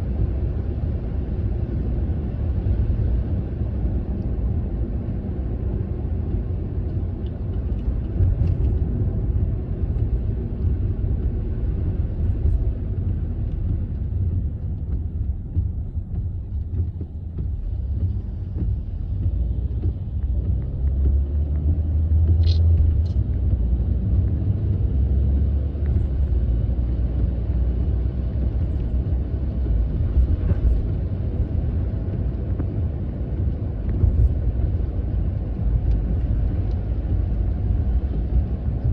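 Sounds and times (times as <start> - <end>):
car interior rumble: 0.0 - 38.9
light rain on wet road: 0.0 - 38.9.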